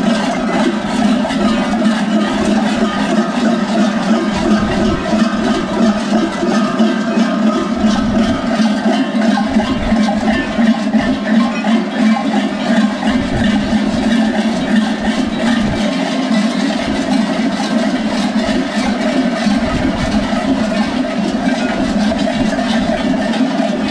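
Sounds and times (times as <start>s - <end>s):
goat bells clanging: 0.0s - 23.9s.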